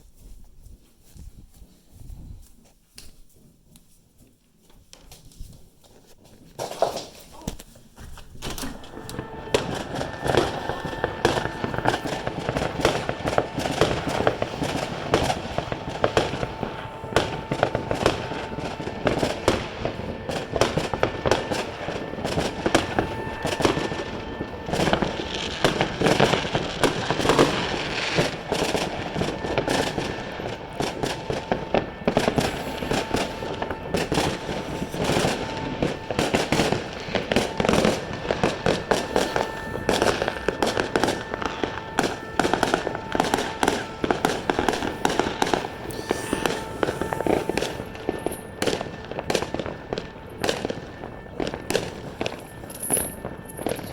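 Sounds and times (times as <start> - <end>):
fireworks and firecrackers banging: 6.6 - 53.9.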